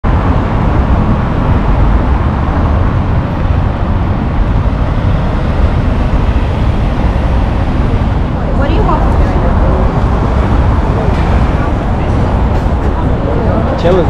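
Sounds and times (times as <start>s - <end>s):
cars driving on cobblestones: 0.0s - 14.0s.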